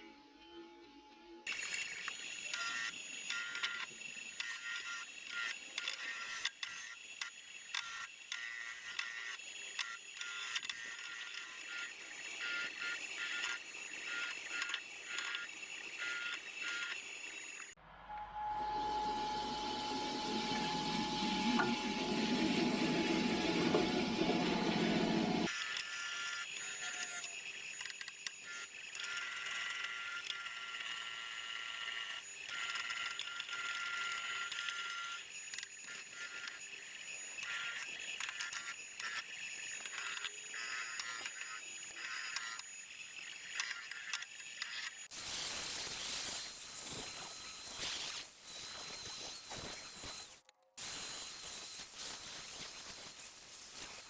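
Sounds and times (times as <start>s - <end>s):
power tool whining on metal: 1.5s - 54.0s.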